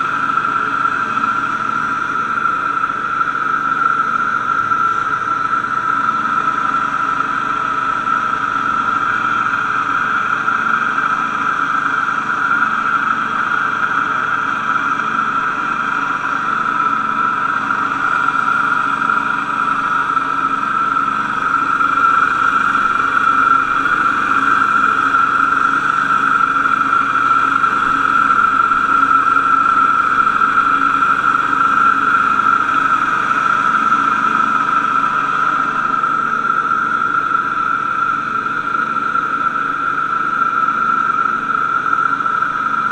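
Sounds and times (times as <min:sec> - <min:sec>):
cutting deck whine: 0:00.0 - 0:42.9
lawn mower engine running: 0:00.0 - 0:42.9.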